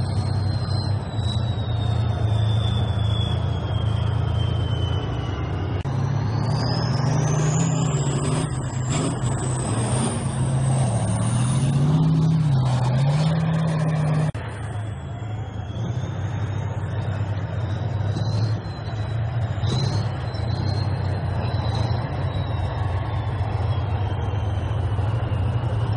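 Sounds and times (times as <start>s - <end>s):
tank engines rumbling: 0.0s - 25.9s.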